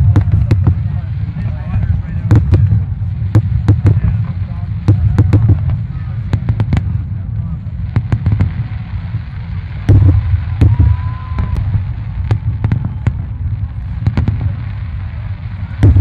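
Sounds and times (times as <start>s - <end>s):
fireworks bangs and crackles: 0.0s - 16.0s
low rumble: 0.0s - 16.0s.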